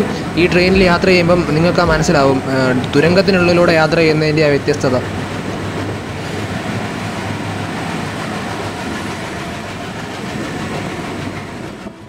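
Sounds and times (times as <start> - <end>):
train wheels rattling on rails: 0.0 - 12.0.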